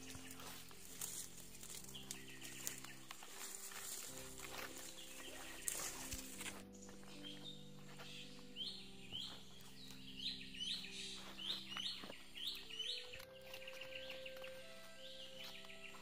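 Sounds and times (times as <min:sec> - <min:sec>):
bird chirping: 0:00.0 - 0:16.0
soft background music: 0:00.0 - 0:16.0.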